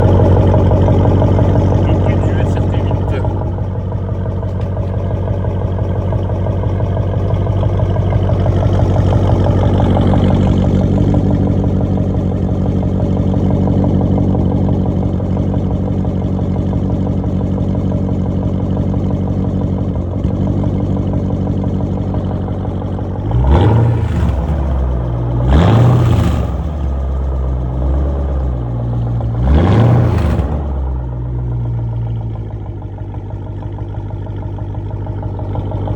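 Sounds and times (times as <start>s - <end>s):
engine idling and revving: 0.0s - 35.9s.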